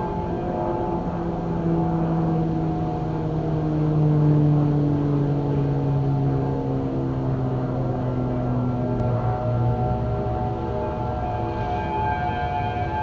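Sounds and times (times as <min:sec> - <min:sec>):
distant warning sirens: 0:00.0 - 0:13.0.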